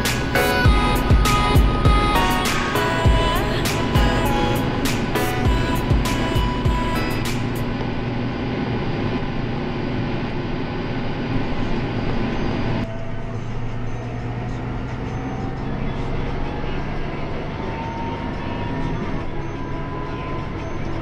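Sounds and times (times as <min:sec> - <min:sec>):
engine hum inside cab: 0:00.0 - 0:21.0
road and wind noise: 0:00.0 - 0:21.0
tractor diesel engine running: 0:00.0 - 0:21.0.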